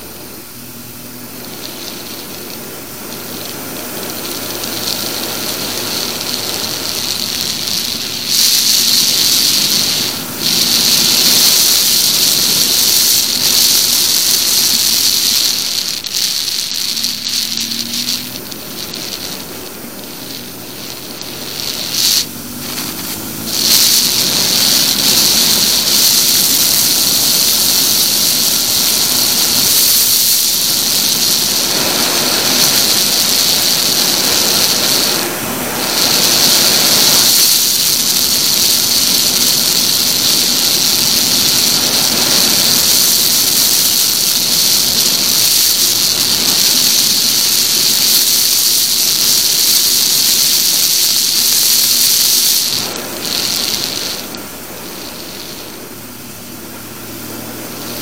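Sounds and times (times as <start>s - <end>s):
faint motorcycle engine: 0.0s - 51.4s
wind rushing over camera: 0.0s - 58.0s.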